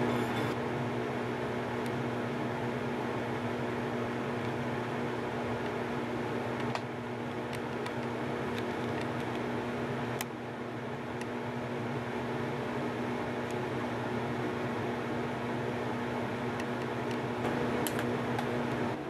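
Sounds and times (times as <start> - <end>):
kitchen fan hum: 0.0 - 19.0.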